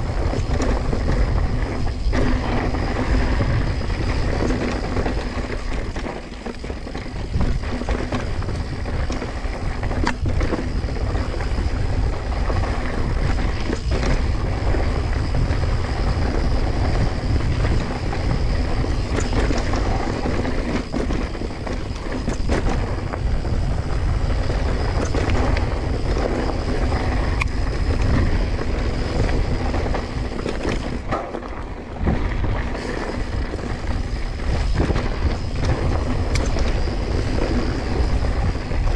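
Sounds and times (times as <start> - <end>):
bike rattling over rocks: 0.0 - 38.9
wind rumbling on microphone: 0.0 - 38.9.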